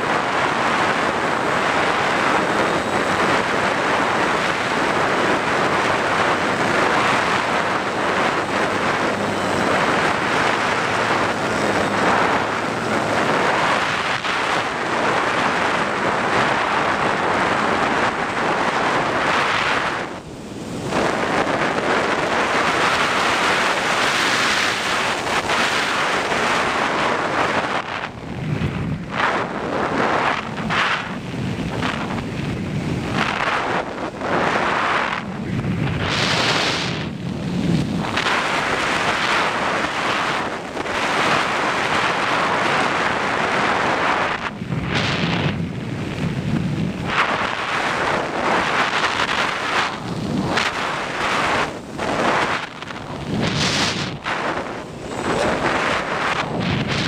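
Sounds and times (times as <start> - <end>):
rushing airflow over microphone: 0.0 - 57.0.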